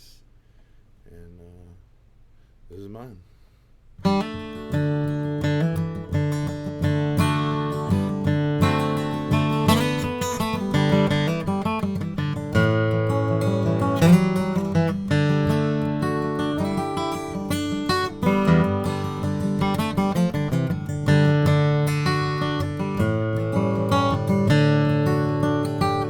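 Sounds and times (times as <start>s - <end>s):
acoustic guitar country tune: 4.0s - 26.0s.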